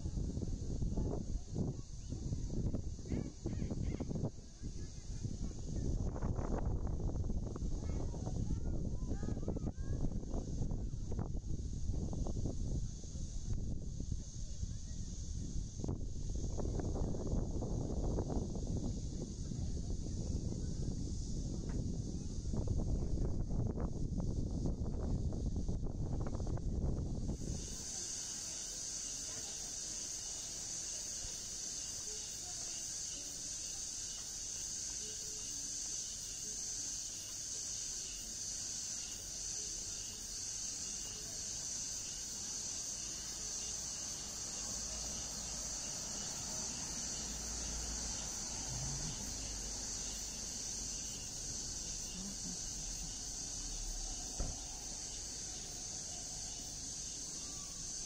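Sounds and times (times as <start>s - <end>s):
insect chorus drone: 0.0s - 58.0s.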